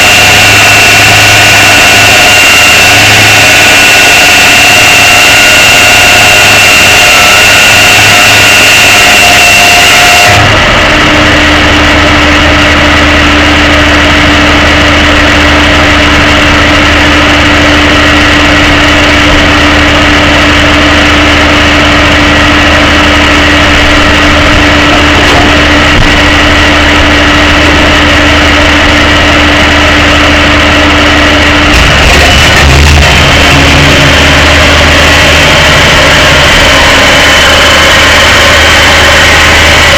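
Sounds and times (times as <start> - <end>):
truck engine humming: 0.0 - 39.9.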